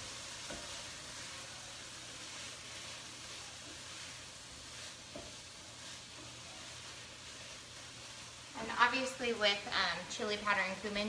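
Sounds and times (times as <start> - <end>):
food sizzling in pan: 0.0 - 11.0.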